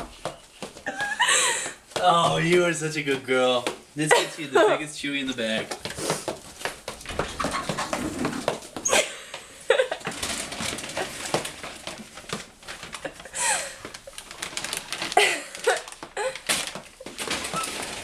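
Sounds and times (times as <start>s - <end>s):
dog paws clicking on wooden floor: 0.0s - 18.0s
plastic bag rustling: 0.0s - 18.0s.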